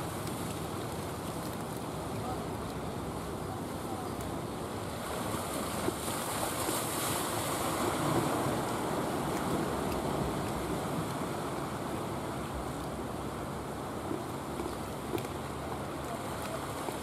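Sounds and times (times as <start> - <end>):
sea waves washing: 0.0 - 17.0.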